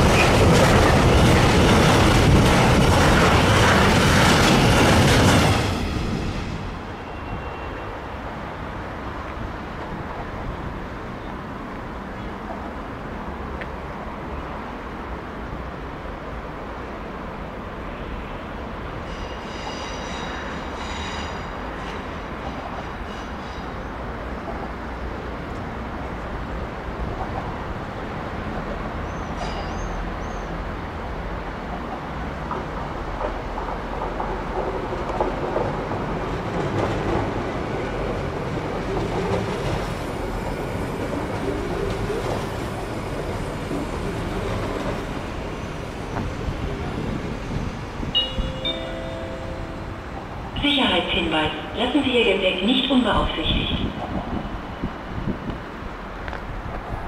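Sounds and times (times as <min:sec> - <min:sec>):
train rolling along track: 0:00.0 - 0:57.0.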